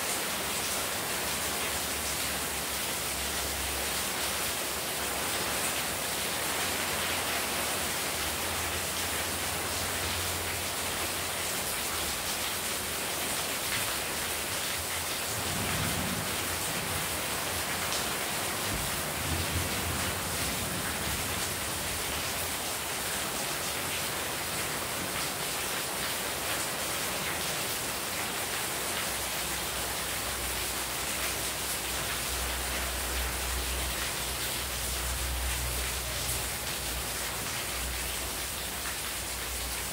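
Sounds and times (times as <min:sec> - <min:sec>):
heavy rain: 0:00.0 - 0:39.9
water splashing on pavement: 0:00.0 - 0:39.9.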